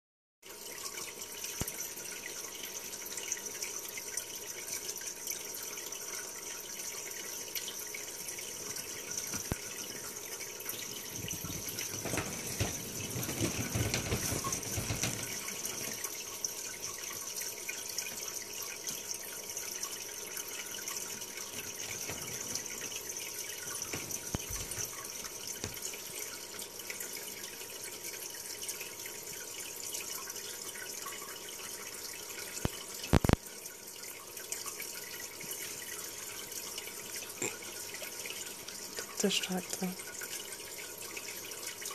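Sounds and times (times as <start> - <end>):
aquarium water bubbling: 0.5 - 41.9.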